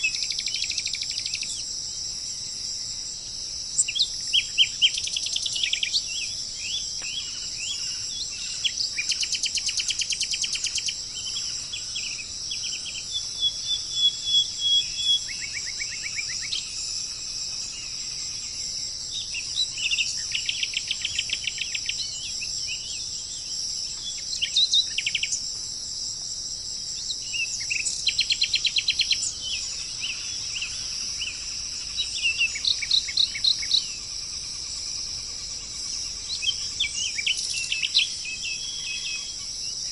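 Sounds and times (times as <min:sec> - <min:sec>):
insect chorus: 0:00.0 - 0:39.9
songbirds calling: 0:00.0 - 0:39.9.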